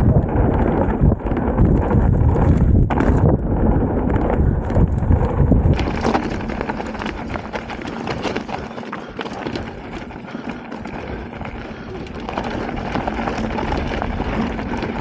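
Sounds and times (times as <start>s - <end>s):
bike rattling over stones: 0.0s - 15.0s
wind buffeting microphone: 0.0s - 15.0s.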